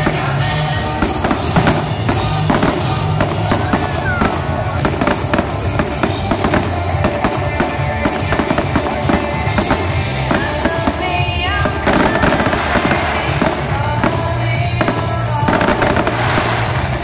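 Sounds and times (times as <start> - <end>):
fireworks bursting and crackling: 0.0 - 17.0
loud music: 0.0 - 17.0.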